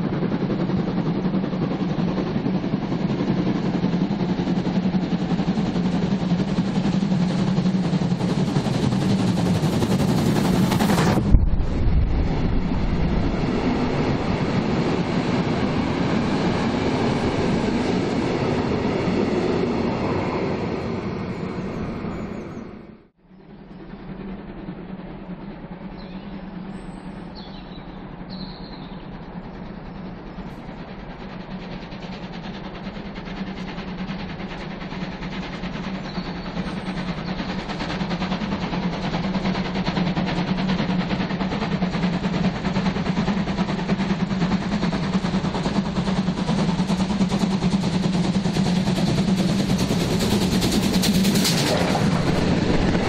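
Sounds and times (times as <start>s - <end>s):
steam locomotive exhaust beats: 0.0s - 53.0s.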